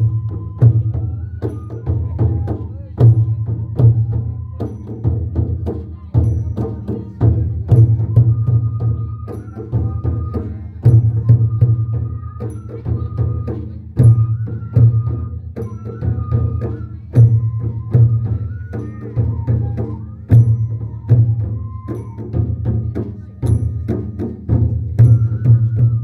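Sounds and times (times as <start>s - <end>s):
hand drums in fast rhythm: 0.0s - 26.0s.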